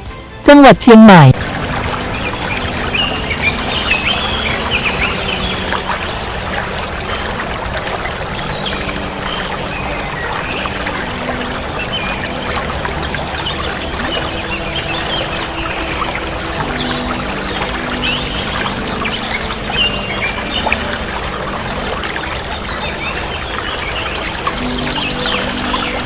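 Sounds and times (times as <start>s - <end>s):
water splashing along boat: 1.4s - 26.0s.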